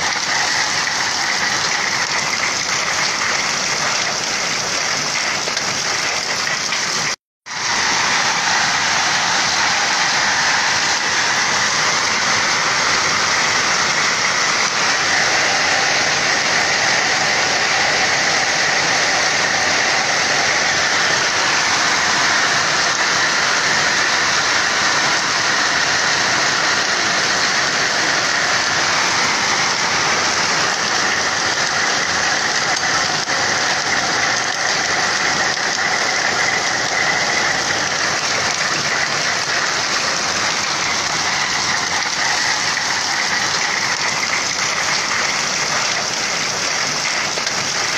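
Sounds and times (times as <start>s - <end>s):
heavy hail on ground: 0.0s - 47.9s.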